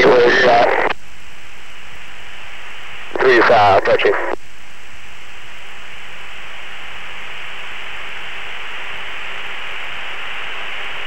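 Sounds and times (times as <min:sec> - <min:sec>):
steady radio hiss: 0:00.0 - 0:11.0.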